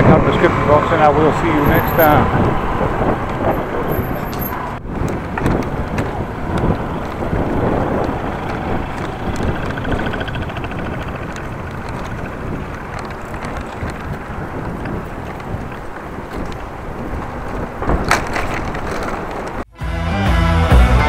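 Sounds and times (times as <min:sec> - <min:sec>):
wind buffeting microphone: 0:00.0 - 0:19.7
road traffic rumble: 0:00.0 - 0:21.0.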